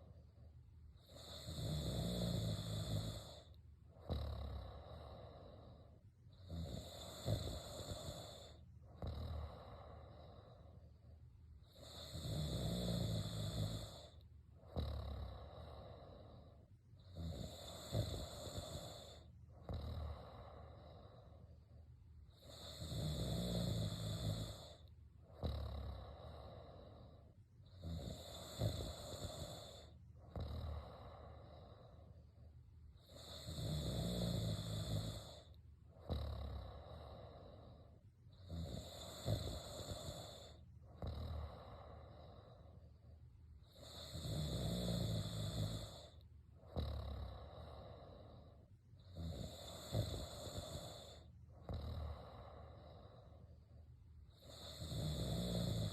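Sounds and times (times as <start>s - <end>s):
quiet breathing: 0.0s - 55.9s
person snoring: 1.0s - 10.8s, 11.6s - 21.6s, 22.3s - 32.2s, 33.0s - 43.0s, 43.6s - 55.9s.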